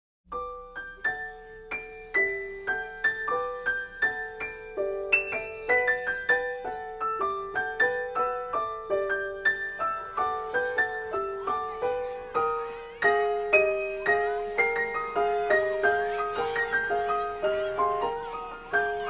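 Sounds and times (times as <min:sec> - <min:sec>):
piano melody: 0:00.3 - 0:19.0.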